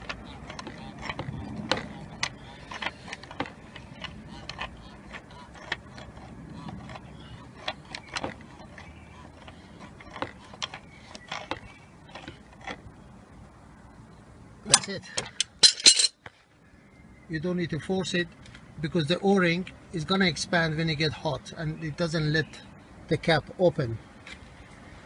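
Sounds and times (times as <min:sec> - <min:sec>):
low steady rumble: 0:00.0 - 0:21.8.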